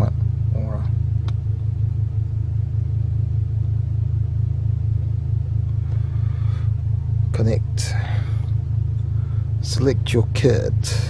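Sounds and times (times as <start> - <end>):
car engine idling inside cabin: 0.0 - 11.0.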